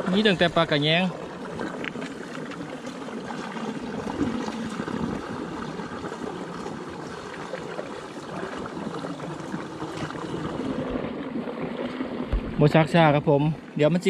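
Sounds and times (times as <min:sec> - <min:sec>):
water running and trickling: 0:00.0 - 0:14.0.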